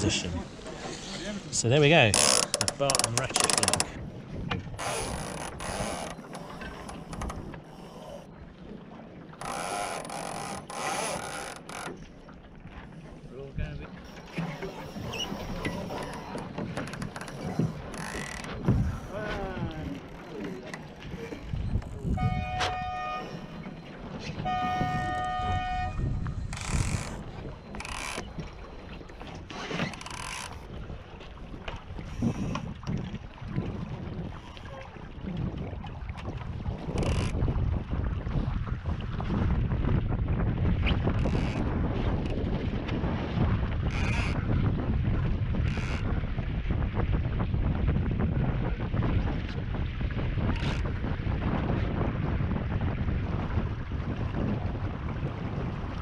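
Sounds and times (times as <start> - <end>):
wind buffeting microphone: 0.0 - 7.7, 12.5 - 56.0.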